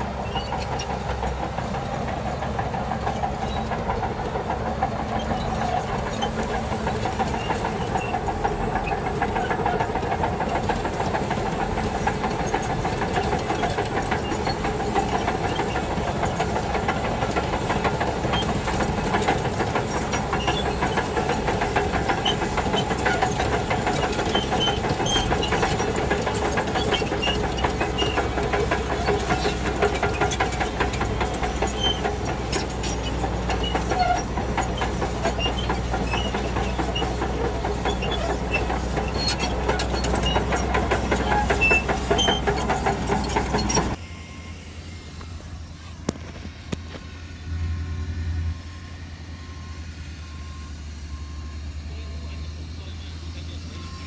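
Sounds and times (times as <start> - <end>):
steel tracks clattering: 0.0 - 44.1
diesel engine under load: 0.0 - 54.0.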